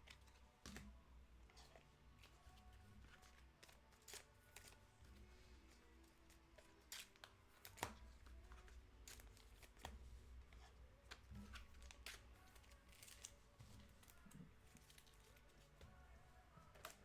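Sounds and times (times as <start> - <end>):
trading cards rustling and clicking: 1.5 - 5.0, 5.6 - 17.0.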